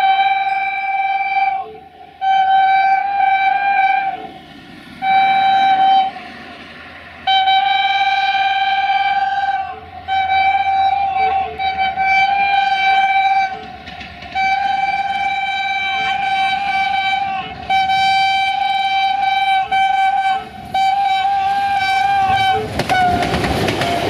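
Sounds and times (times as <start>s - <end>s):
locomotive air horn blasts: 0.0s - 24.0s
low train rumble: 0.0s - 24.0s.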